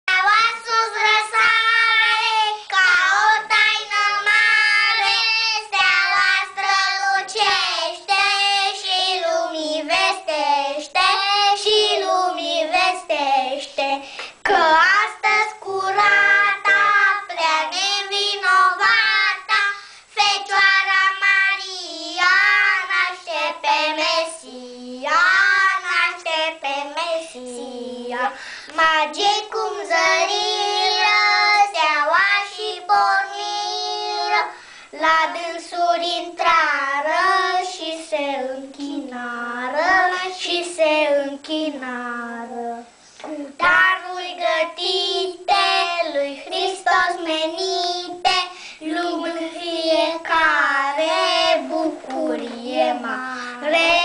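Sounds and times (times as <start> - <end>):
boys singing a carol: 0.1 - 54.0.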